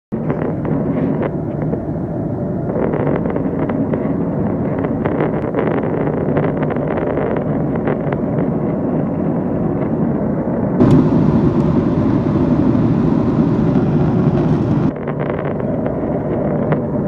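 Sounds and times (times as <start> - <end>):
jet engines roaring in cabin: 0.2 - 17.0.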